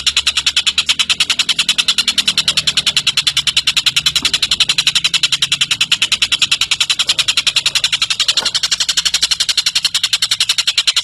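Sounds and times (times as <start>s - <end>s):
bird rapid chattering call: 0.0s - 11.0s.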